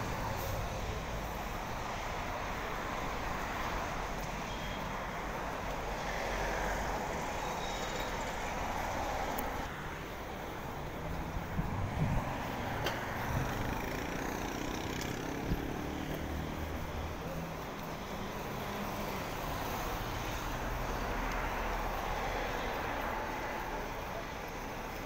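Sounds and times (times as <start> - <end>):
road traffic engines: 0.0 - 25.0.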